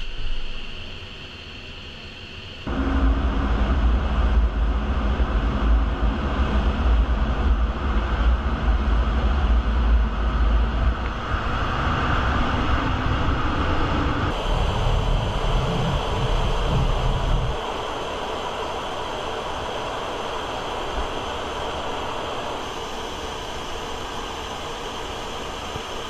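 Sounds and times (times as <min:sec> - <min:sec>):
jet engine and airflow rush: 0:00.0 - 0:26.0.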